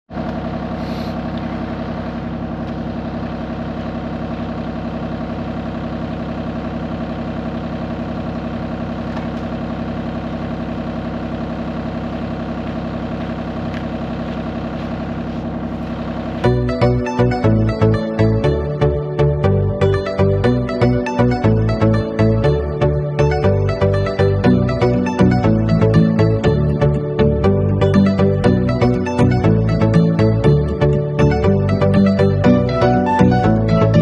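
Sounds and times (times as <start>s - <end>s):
excavator diesel engine idling: 0.1s - 34.0s.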